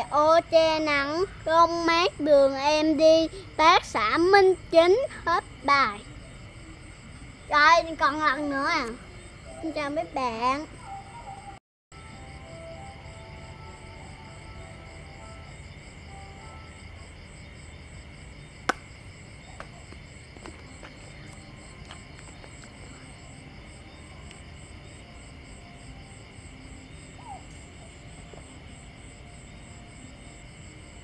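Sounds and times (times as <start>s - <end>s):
night insects chirping: 0.0s - 31.0s.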